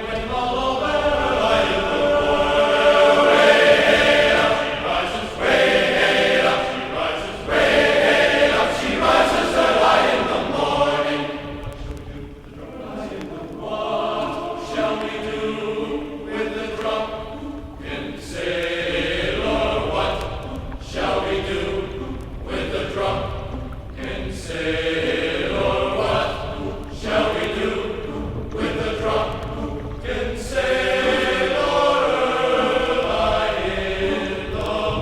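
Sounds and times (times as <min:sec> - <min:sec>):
choir singing long phrases: 0:00.0 - 0:35.0.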